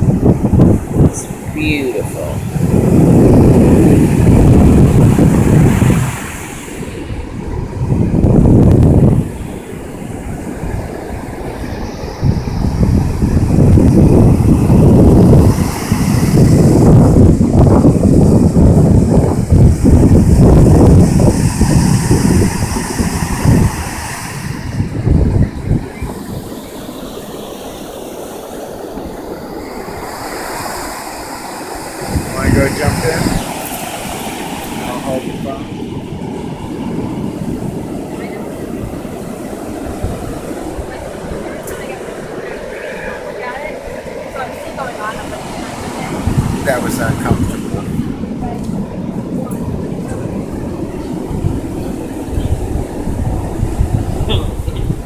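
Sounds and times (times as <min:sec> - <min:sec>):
ocean surf washing ashore: 0:00.0 - 0:55.0
wind buffeting microphone: 0:00.0 - 0:55.0.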